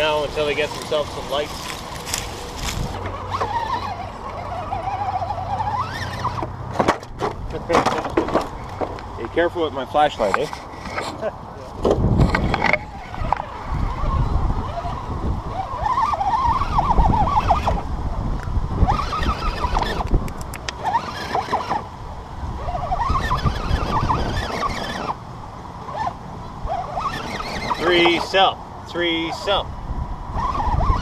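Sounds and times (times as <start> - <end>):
electric motor whining: 0.0 - 7.1, 10.0 - 25.2, 25.8 - 29.6, 30.3 - 31.0.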